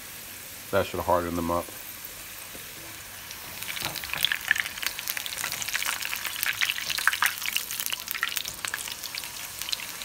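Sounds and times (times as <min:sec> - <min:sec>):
tortilla sizzling in hot oil: 0:00.0 - 0:10.0.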